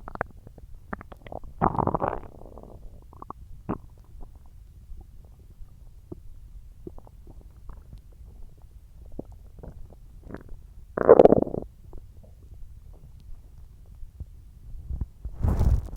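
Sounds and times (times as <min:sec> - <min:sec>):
stomach growling and gurgling: 0:00.0 - 0:13.2.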